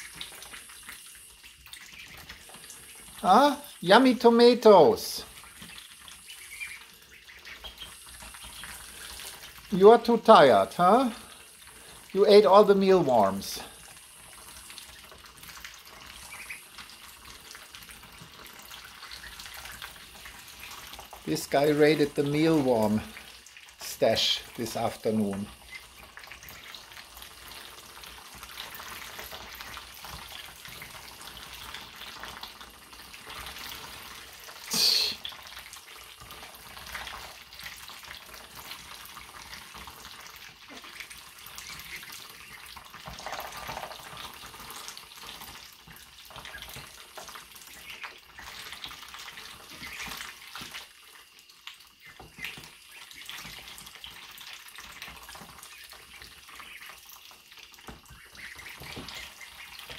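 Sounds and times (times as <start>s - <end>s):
ducklings slurping and splashing soup: 0.0s - 59.9s.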